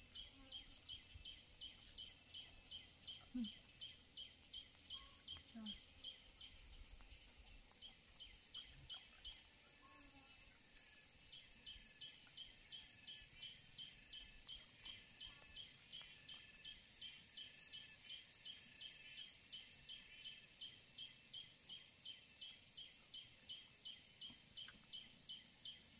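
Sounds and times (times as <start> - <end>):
steady high-pitched hiss: 0.0 - 25.9.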